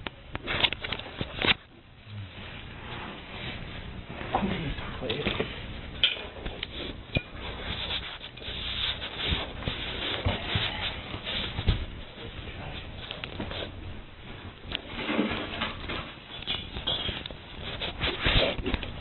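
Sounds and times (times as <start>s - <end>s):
rustling and rubbing noises: 0.4s - 19.0s.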